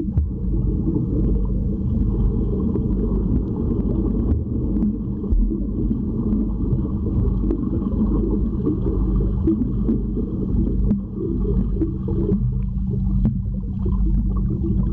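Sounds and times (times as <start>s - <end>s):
faint clicks and ticks: 0.0s - 14.9s
muffled underwater rumble of pool water: 0.0s - 14.9s.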